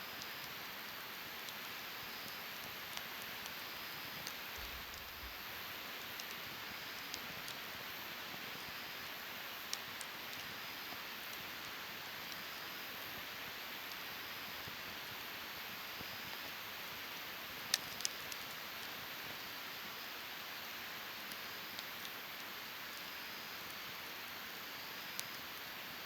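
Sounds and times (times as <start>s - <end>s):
wood fire crackling: 0.1s - 26.0s.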